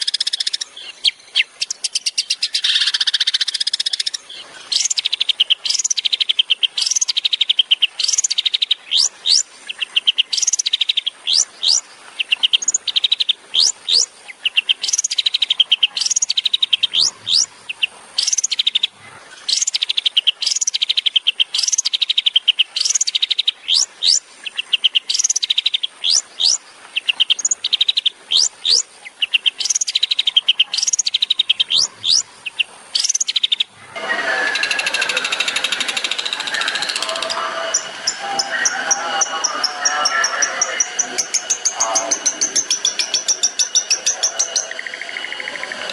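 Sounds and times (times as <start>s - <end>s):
bird buzzy trill and whistles: 0.0s - 45.9s.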